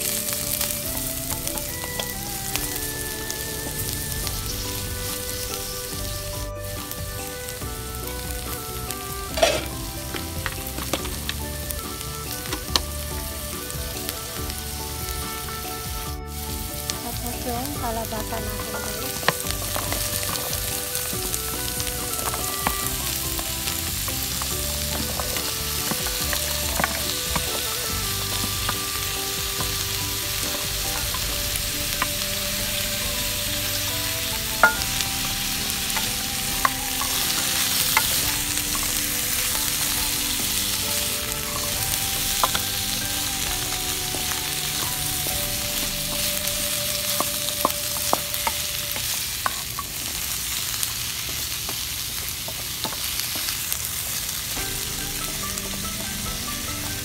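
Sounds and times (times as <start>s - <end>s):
food sizzling in oil: 0.0s - 57.0s.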